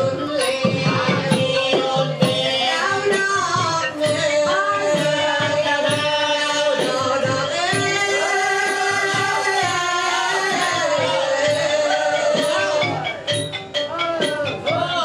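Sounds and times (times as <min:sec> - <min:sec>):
steady percussion beat: 0:00.0 - 0:15.0.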